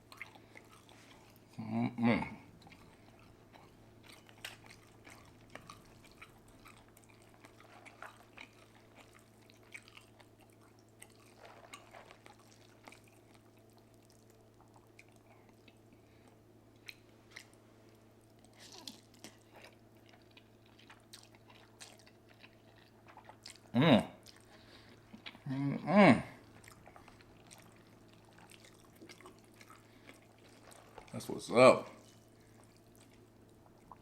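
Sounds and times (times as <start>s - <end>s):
person chewing: 0.0s - 1.6s, 2.4s - 34.0s.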